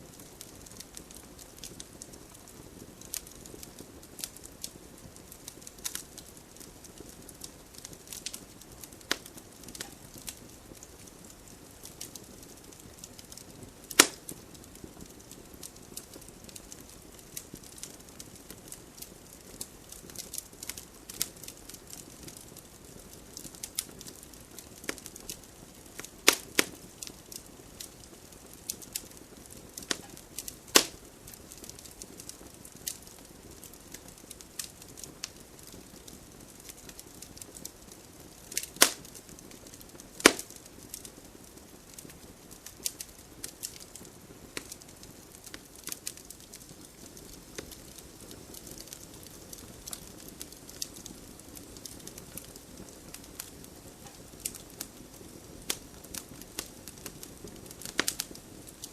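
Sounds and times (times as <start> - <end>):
campfire crackling: 0.0 - 58.9
faint steady hiss: 0.0 - 58.9.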